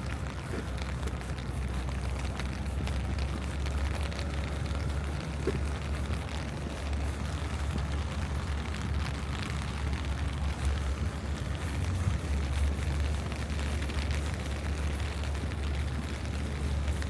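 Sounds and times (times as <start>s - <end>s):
rain on wet streets: 0.0s - 17.0s
traffic rumble: 0.0s - 17.0s.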